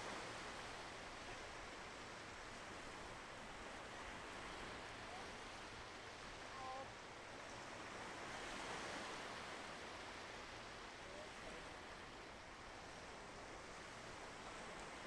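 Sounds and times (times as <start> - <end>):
small waves breaking on sand: 0.0 - 15.0.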